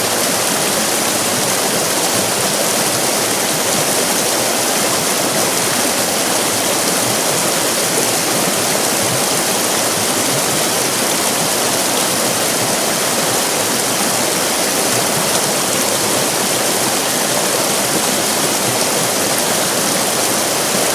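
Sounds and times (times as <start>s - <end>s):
river rapids rushing: 0.0s - 20.9s.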